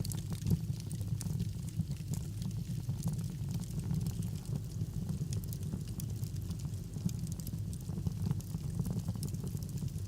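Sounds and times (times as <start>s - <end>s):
fire crackling and popping: 0.0s - 10.0s.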